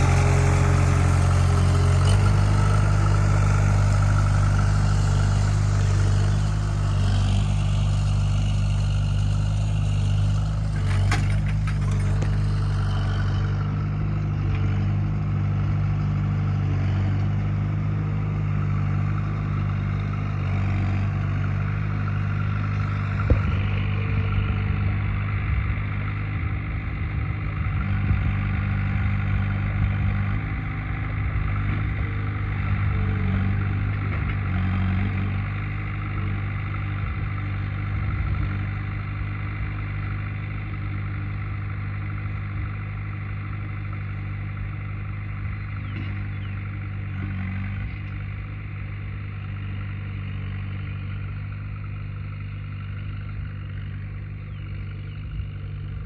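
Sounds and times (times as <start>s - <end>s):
farm machine engine running: 0.0s - 56.0s.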